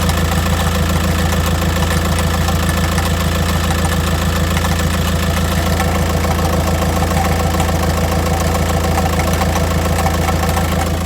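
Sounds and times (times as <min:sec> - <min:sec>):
diesel engine idling: 0:00.0 - 0:11.0
clunking rattle: 0:01.9 - 0:11.0.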